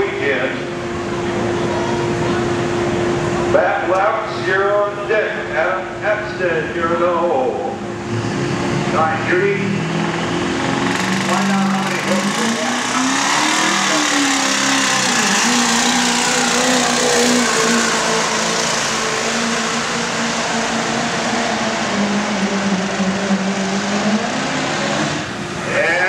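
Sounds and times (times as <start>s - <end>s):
diesel truck engine at full throttle: 0.0s - 26.0s.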